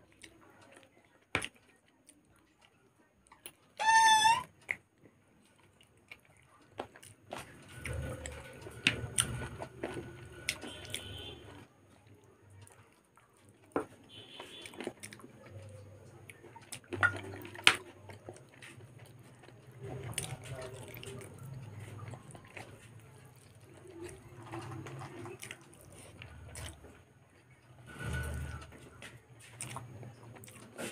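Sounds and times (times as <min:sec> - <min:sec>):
wet chewing and mouth sounds: 0:04.5 - 0:30.9.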